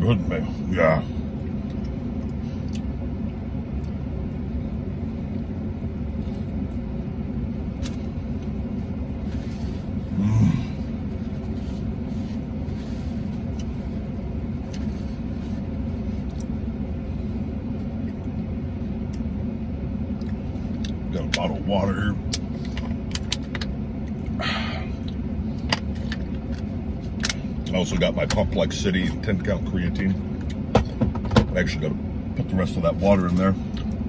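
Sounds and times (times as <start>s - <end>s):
air conditioning running: 0.0s - 34.0s
vehicle engine idling: 0.0s - 34.0s.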